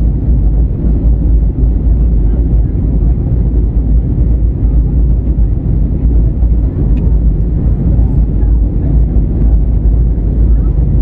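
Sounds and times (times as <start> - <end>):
aircraft cabin engine rumble: 0.0 - 11.0
airflow noise: 0.0 - 11.0.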